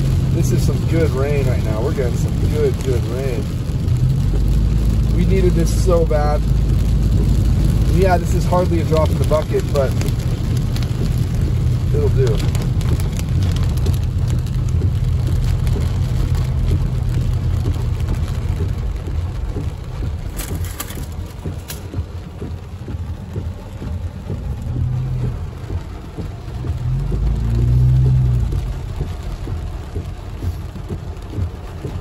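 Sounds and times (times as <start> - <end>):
engine and road hum: 0.0 - 32.0
heavy rain on car roof: 0.0 - 32.0
windshield wiper sweeping: 0.0 - 32.0.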